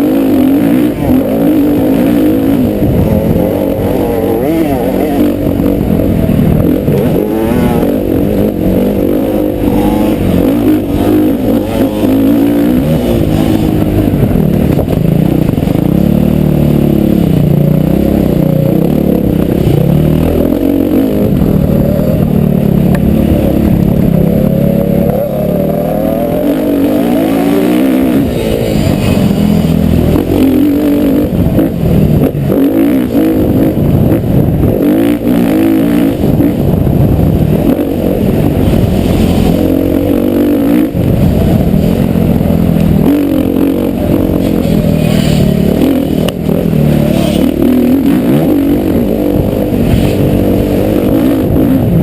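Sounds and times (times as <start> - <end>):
motocross bike engine revving: 0.0 - 52.0.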